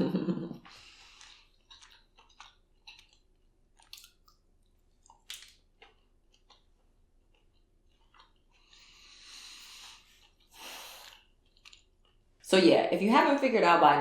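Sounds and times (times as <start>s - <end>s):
person chewing crunchy food: 0.6s - 12.3s.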